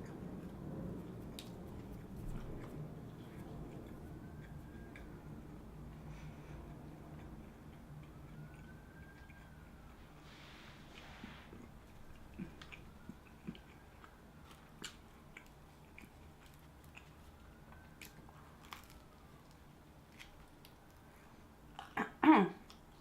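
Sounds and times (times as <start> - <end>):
chewing sandwich: 0.0 - 10.2, 10.8 - 22.0.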